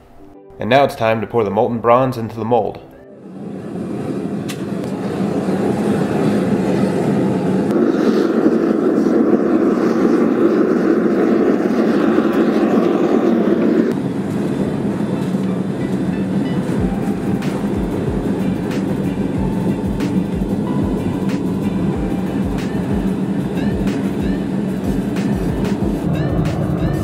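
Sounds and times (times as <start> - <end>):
gas burner rushing: 3.3 - 27.0.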